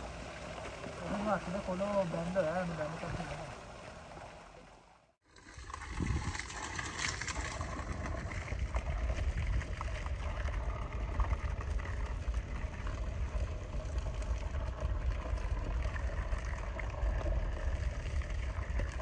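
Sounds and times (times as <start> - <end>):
water gushing from pipe: 0.0 - 19.0
water splashing into trench: 0.0 - 19.0.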